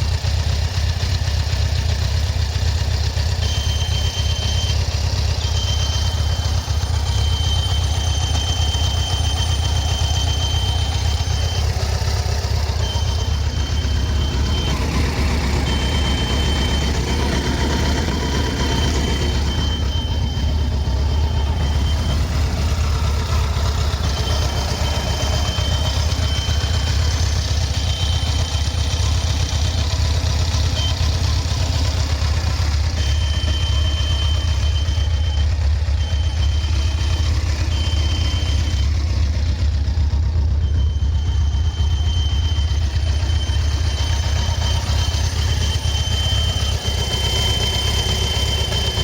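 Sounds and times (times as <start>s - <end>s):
motorcycle engine idling: 0.0s - 49.0s
thin high whistle: 2.4s - 49.0s.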